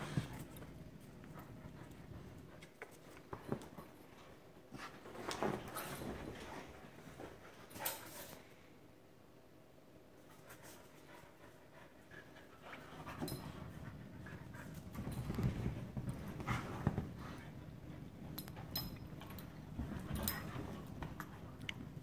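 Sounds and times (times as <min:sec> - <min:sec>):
dogs scuffling: 0:00.0 - 0:08.4, 0:12.7 - 0:22.0.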